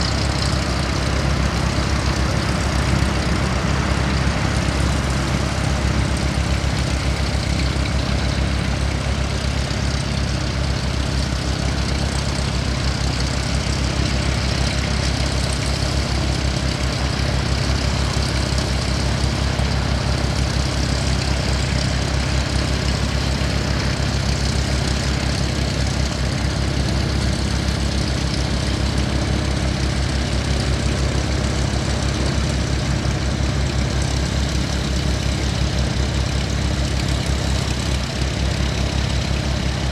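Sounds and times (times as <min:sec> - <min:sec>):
aircraft engines droning: 0:00.0 - 0:39.9.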